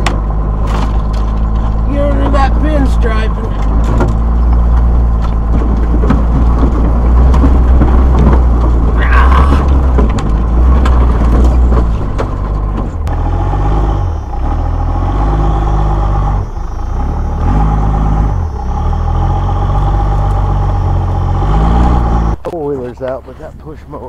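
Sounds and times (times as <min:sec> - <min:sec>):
vehicle engine working hard: 0:00.0 - 0:24.0.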